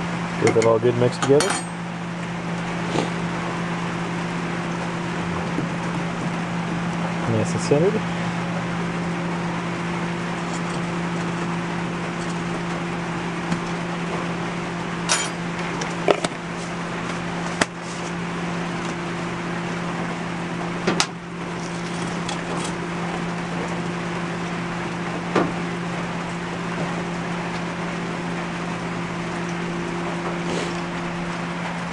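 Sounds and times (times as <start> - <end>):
low hum: 0.0 - 31.9.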